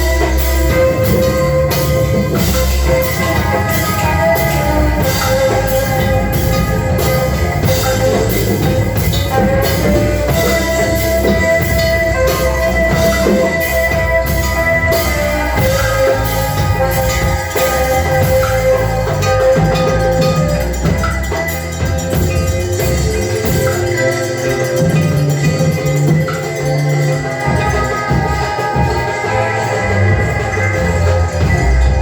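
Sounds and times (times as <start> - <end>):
drums keeping a steady beat: 0.0 - 32.0
held instrumental notes: 0.0 - 32.0.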